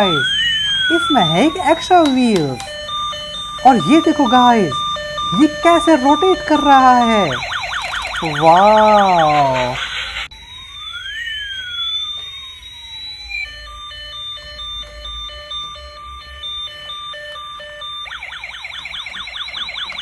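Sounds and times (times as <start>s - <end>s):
toy siren sounds: 0.0s - 20.0s.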